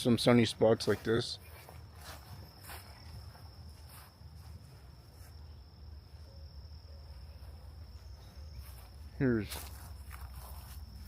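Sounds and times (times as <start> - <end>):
faint footsteps on trail: 0.0 - 11.0
insects trilling: 0.0 - 11.0.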